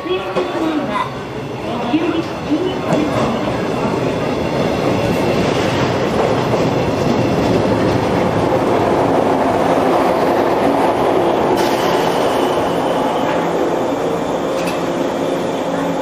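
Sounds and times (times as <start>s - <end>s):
train wheels rumbling: 0.1s - 16.0s.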